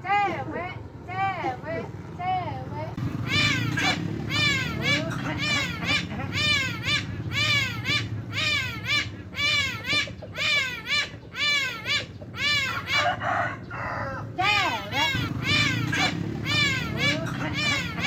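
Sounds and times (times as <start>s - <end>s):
bird calling in short cries: 3.0s - 18.0s.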